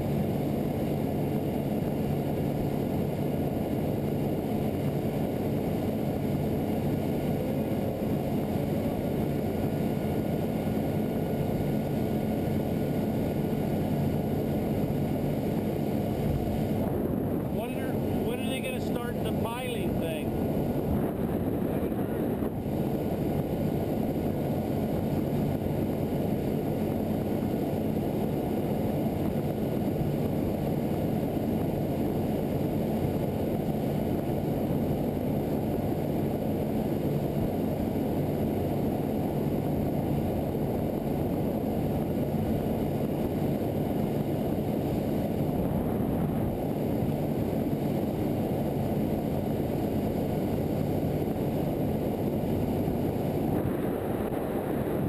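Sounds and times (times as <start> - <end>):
motorboat engine drone: 0.0 - 55.0
rush of wind and water: 0.0 - 55.0.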